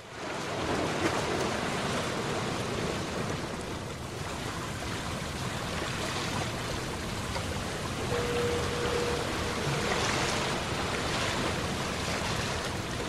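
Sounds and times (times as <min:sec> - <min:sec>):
water washing along hull: 0:00.0 - 0:13.0.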